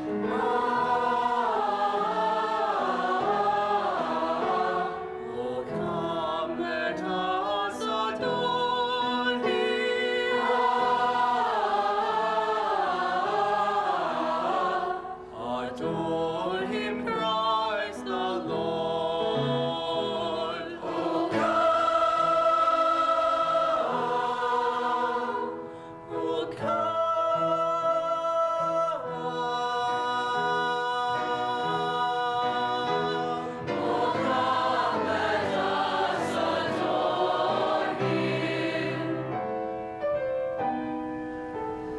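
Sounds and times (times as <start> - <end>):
choir singing a carol: 0.0 - 39.8.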